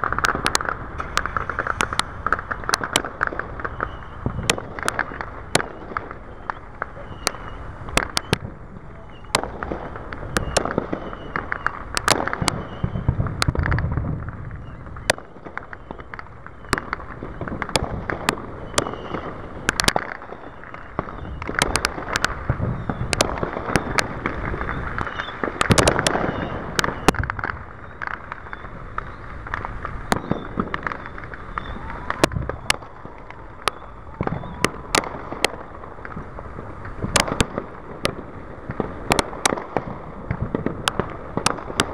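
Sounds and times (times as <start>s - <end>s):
fireworks bursting: 0.0s - 41.9s
fireworks crackling: 0.0s - 41.9s.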